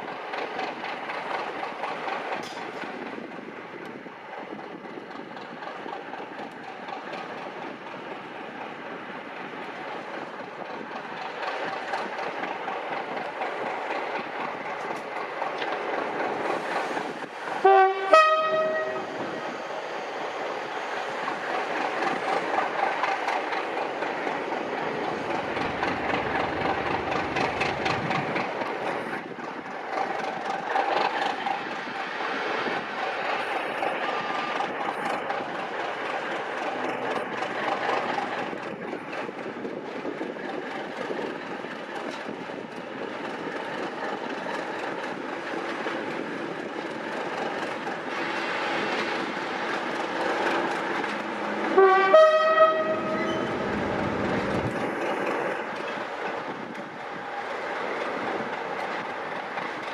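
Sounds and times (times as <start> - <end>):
train running rumble: 0.0 - 59.9
train wheels clicking over rail joints: 0.0 - 59.9.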